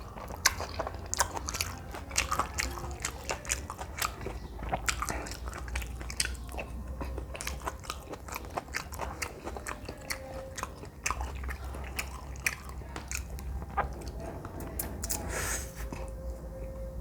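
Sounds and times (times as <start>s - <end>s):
person chewing noodles: 0.0s - 17.0s.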